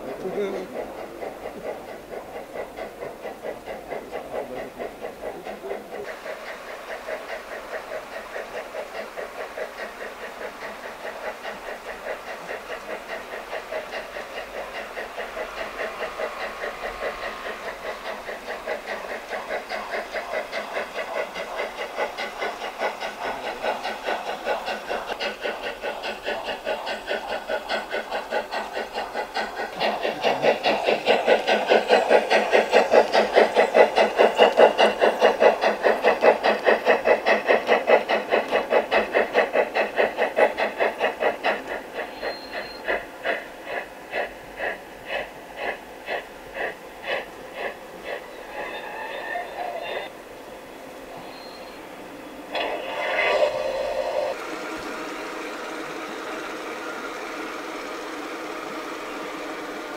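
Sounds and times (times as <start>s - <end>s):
model steam locomotive chuffing: 0.0s - 59.9s
steady steam hiss: 0.0s - 59.9s.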